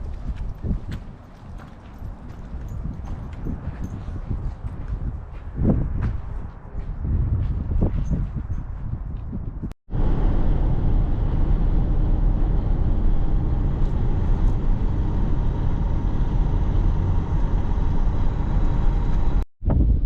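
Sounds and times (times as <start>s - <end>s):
vehicle road and engine rumble: 0.0s - 19.5s.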